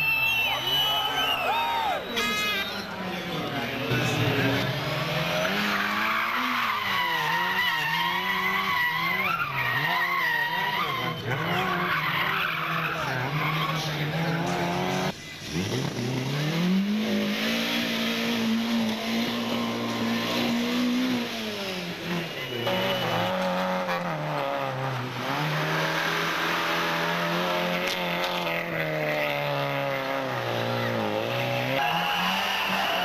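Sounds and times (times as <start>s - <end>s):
rally car engine revving: 0.2s - 33.0s.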